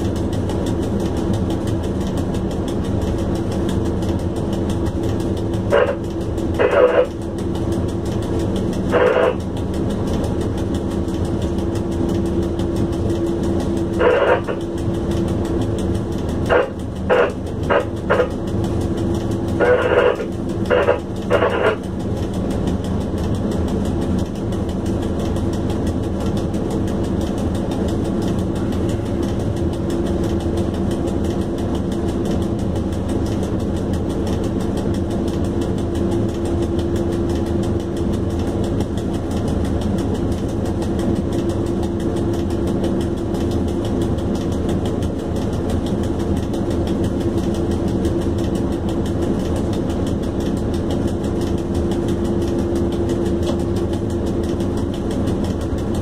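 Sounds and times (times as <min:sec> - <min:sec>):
electric locomotive hum: 0:00.0 - 0:56.0
wheels on rails: 0:00.0 - 0:56.0.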